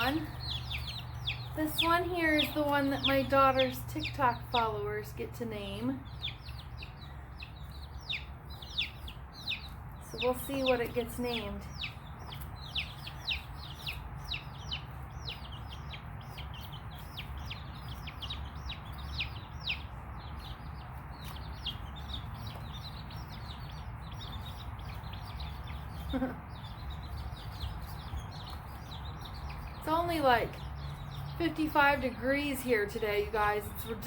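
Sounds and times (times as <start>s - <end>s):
baby chicks peeping: 0.0s - 34.0s.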